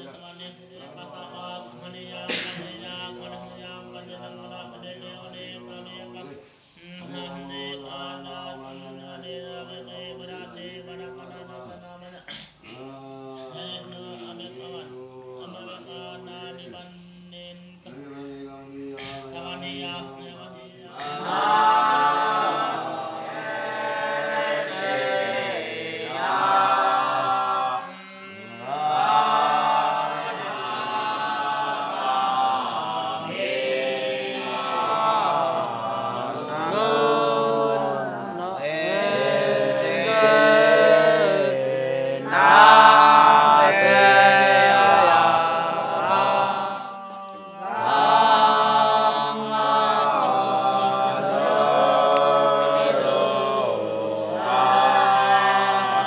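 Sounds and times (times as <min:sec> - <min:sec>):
monks chanting together: 0:00.0 - 0:56.0.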